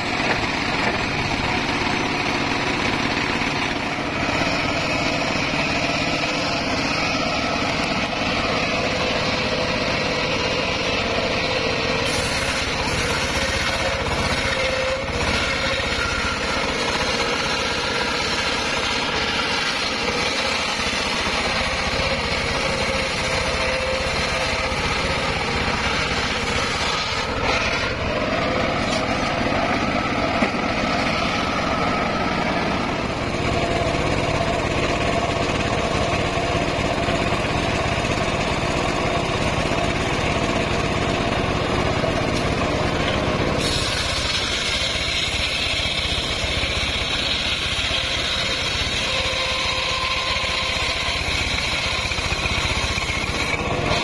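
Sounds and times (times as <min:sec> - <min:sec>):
circular sawmill ripping a log: 0:00.0 - 0:54.0.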